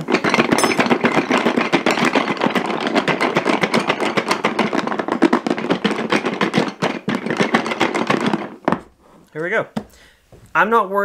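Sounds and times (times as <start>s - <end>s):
wooden utensils rattling in plastic box: 0.0s - 8.8s.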